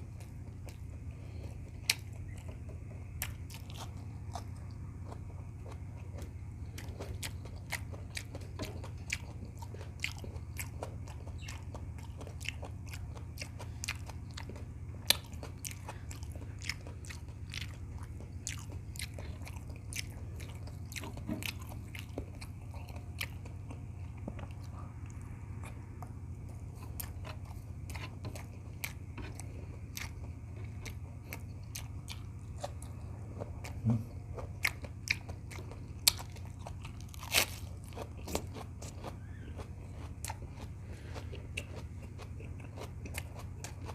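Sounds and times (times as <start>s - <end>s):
person chewing food: 0.0s - 43.9s
steady low hum: 0.0s - 43.9s.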